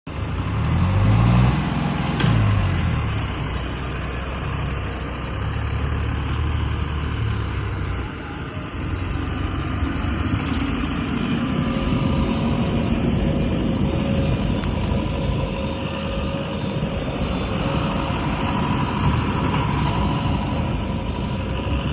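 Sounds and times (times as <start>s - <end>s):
heavy diesel engine revving: 0.1s - 21.9s.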